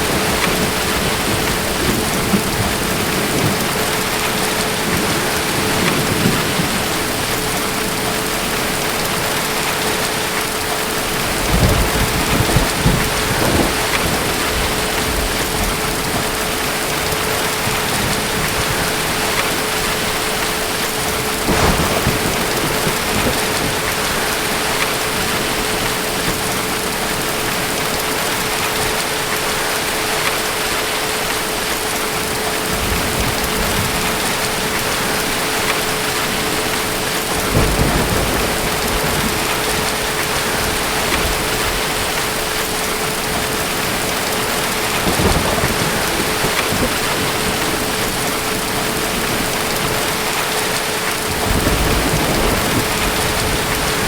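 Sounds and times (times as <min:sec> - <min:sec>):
distant thunder rumbles: 0:00.0 - 0:29.4, 0:32.6 - 0:54.0
heavy rain hissing: 0:00.0 - 0:54.0.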